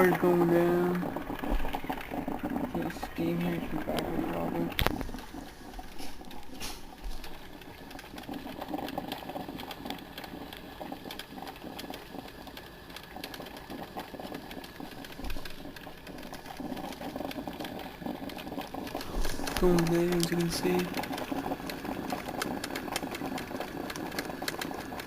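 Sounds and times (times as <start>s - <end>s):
coffee maker bubbling and clicking: 0.0s - 25.0s.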